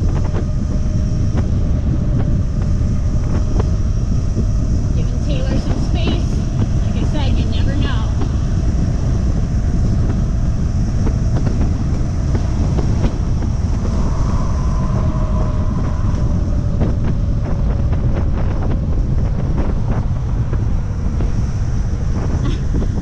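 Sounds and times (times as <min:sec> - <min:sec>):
faint whine: 0:00.0 - 0:23.0
road noise: 0:00.0 - 0:23.0
wind buffeting microphone: 0:00.0 - 0:23.0.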